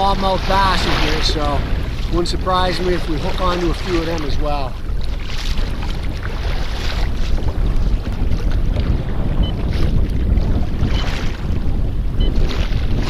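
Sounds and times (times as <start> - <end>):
water washing against hull: 0.0 - 13.0
wind rumbling on microphone: 0.0 - 13.0.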